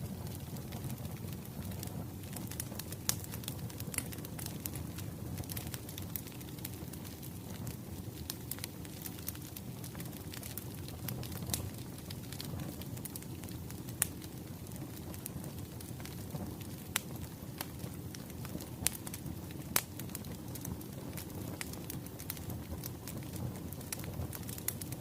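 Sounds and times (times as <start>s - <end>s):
firewood crackling: 0.0s - 25.0s
low rush of flames: 0.0s - 25.0s.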